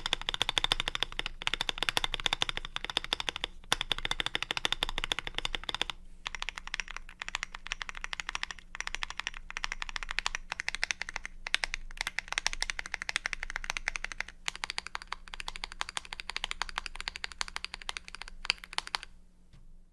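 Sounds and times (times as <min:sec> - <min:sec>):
mechanical keyboard typing: 0:00.0 - 0:19.1.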